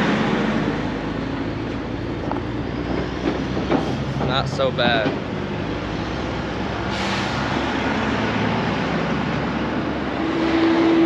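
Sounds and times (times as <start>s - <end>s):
heavy truck engine running: 0.0s - 11.0s.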